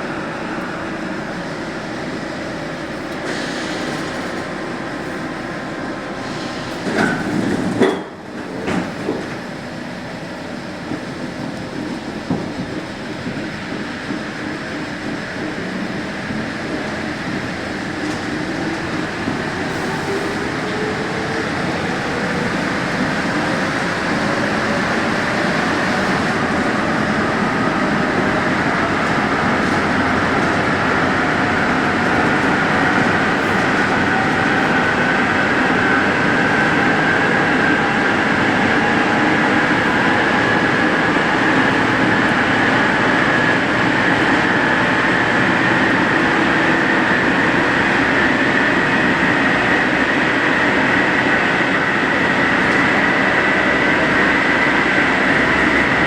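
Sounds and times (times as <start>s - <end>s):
train running noise: 0.0s - 56.0s
train traction motors whining: 0.0s - 56.0s.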